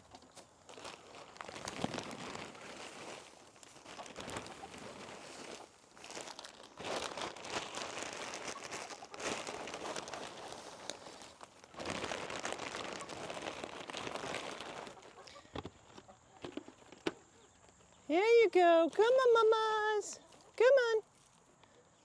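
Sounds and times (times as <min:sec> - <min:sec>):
dry rustling and crinkling: 0:00.0 - 0:17.7
small crackles: 0:00.0 - 0:18.0.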